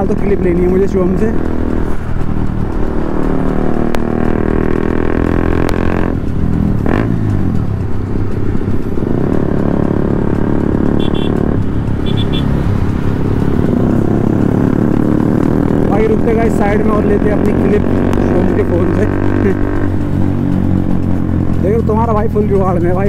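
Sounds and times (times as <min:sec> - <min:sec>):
motorcycle engine and exhaust: 0:00.0 - 0:23.0.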